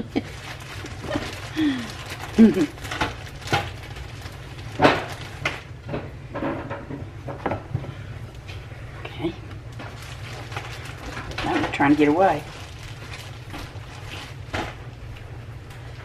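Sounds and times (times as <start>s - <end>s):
low hum with faint hiss: 0.0s - 16.0s.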